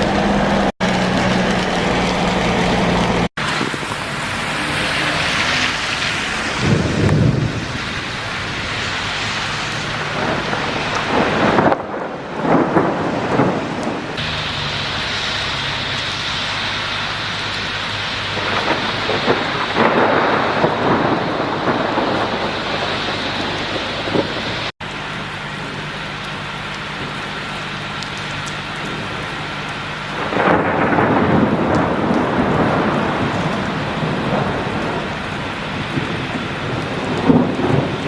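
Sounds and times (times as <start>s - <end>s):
thunder rumbling: 0.0s - 24.7s, 30.1s - 38.0s
rain falling: 0.0s - 38.0s.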